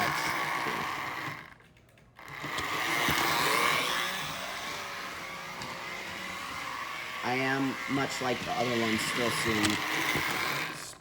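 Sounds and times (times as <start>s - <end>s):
toy locomotive motor whining: 0.0s - 1.6s, 2.2s - 11.0s.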